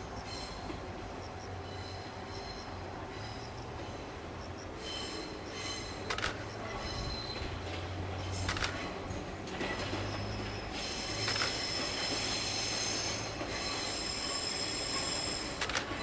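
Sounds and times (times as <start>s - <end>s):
train wheels squealing: 0.0s - 8.9s, 9.5s - 16.0s
wheels clacking over rail joints: 0.0s - 16.0s.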